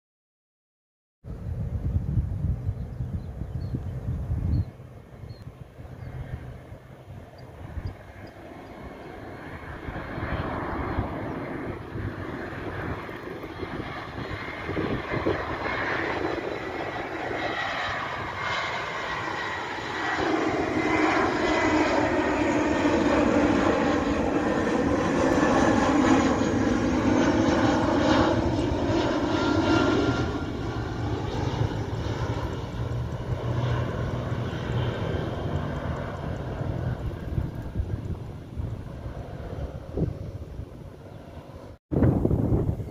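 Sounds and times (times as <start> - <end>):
jet airliner whining and rumbling: 1.3 - 42.9.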